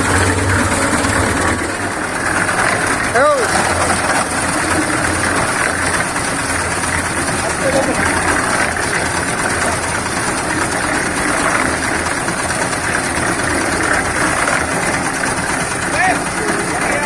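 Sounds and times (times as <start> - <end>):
concrete mixer diesel engine: 0.0 - 17.0.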